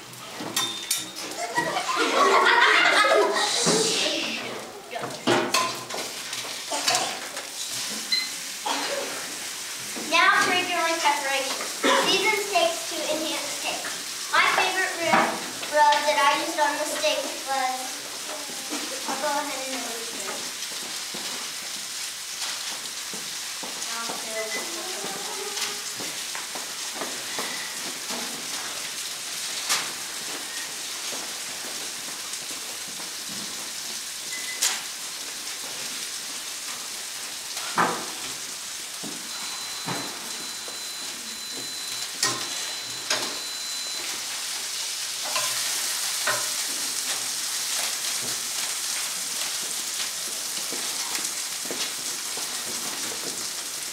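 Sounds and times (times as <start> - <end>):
steak sizzling in a pan: 0.0 - 53.9.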